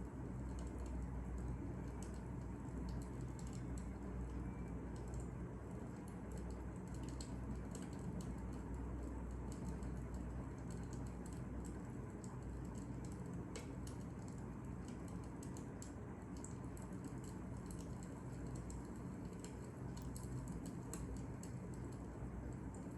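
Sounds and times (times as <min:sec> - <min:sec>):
low rumble of burning: 0:00.0 - 0:22.9.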